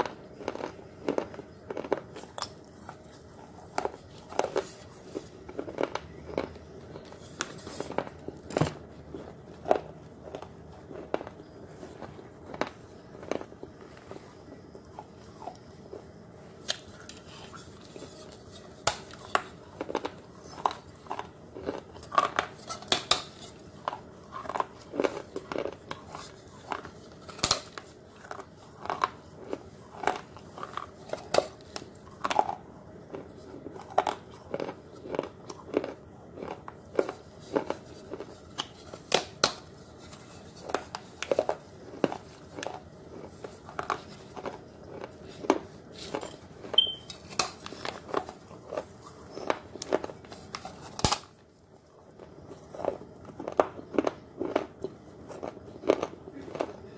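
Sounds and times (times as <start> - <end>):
clay pot being chewed: 0.0 - 56.9.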